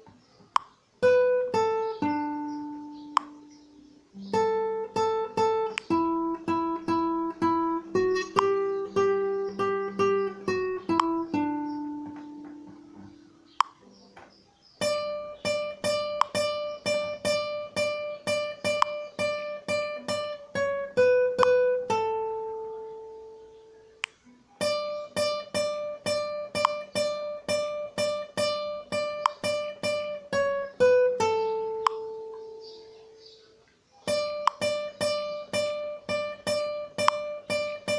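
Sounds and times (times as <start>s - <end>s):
guitar picking a melody: 0.0s - 37.9s.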